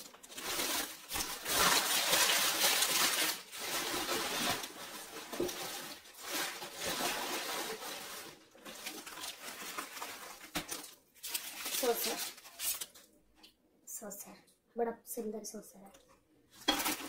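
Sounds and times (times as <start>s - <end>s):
packaging rustling and crinkling: 0.0s - 13.5s, 16.6s - 17.0s.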